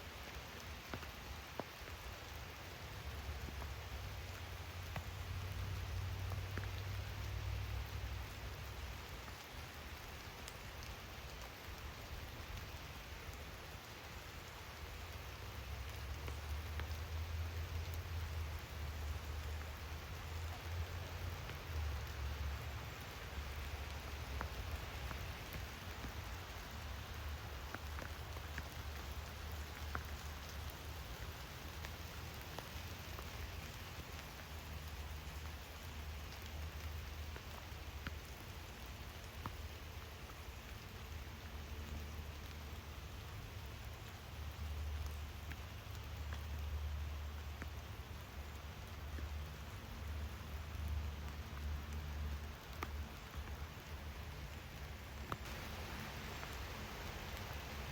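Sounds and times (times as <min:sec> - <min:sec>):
rain falling on pond: 0:00.0 - 0:57.9.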